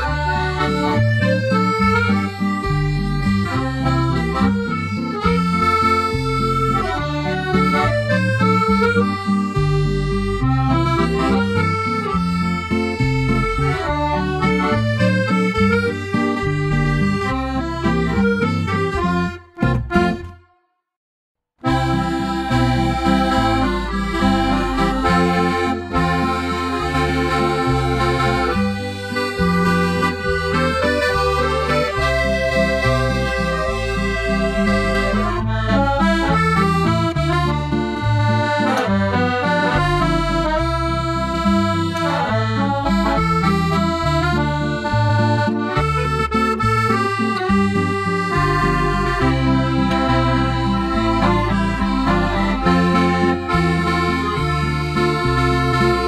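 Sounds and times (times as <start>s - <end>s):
accordion playing a tune: 0.0s - 20.5s, 21.6s - 56.0s.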